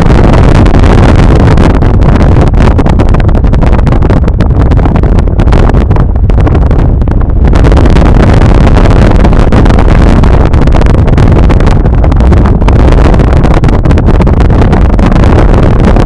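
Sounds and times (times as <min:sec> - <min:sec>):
car rumble and road noise: 0:00.0 - 0:16.0.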